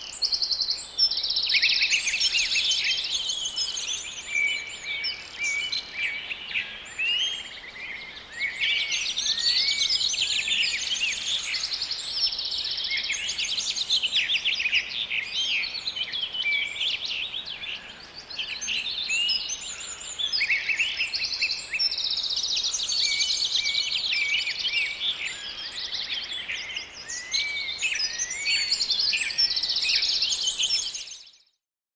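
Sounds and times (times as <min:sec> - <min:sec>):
songbirds singing and chirping: 0:00.0 - 0:31.6.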